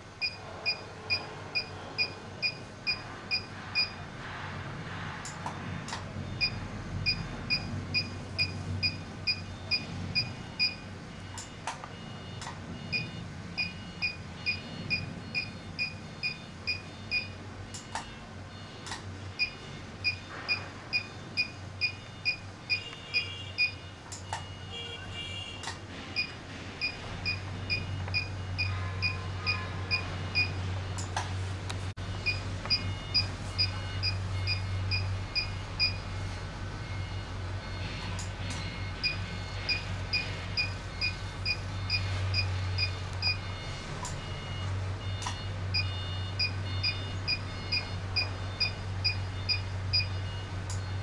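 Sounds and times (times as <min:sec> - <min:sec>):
short electronic beeps: 0:06.2 - 0:31.2, 0:32.1 - 0:51.0.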